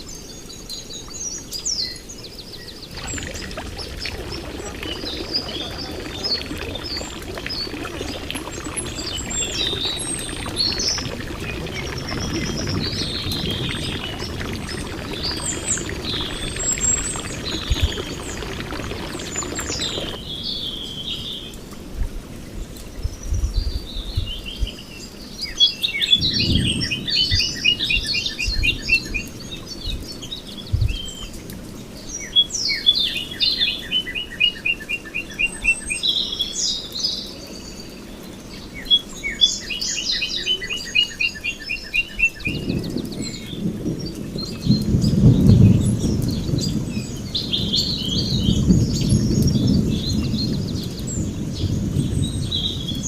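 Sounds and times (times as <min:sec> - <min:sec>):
birds singing and chirping: 0:00.1 - 0:21.6, 0:32.0 - 0:53.0.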